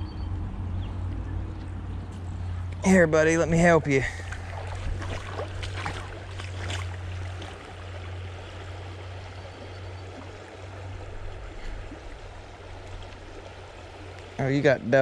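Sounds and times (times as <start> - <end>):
creek water flowing over rocks: 1.7 - 15.0.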